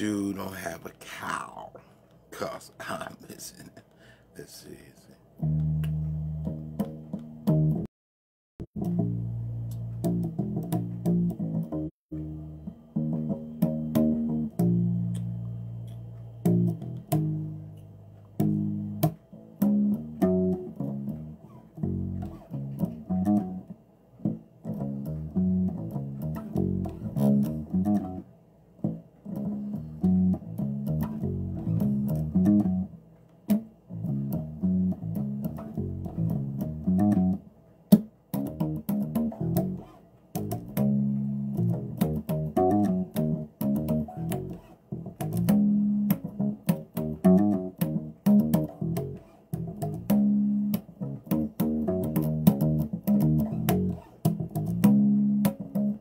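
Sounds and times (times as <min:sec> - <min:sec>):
bass guitar plucked notes: 0:05.4 - 0:07.9, 0:08.6 - 0:28.2, 0:28.8 - 0:56.0.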